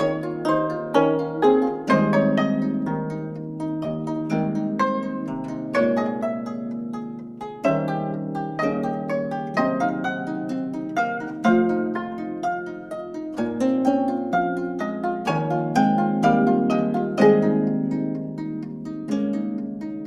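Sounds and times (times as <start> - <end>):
plucked zithers playing: 0.0 - 20.0.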